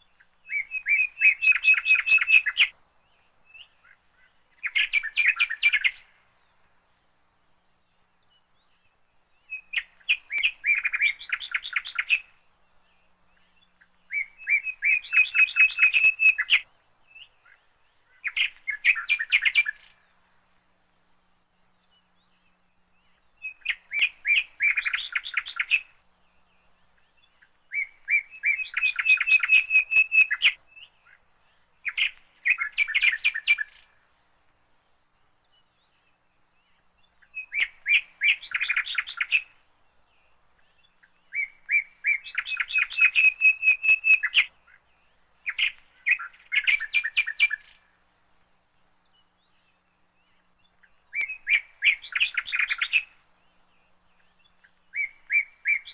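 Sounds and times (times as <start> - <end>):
small bird chirping: 0.0 - 6.6, 7.8 - 34.1, 34.9 - 55.9.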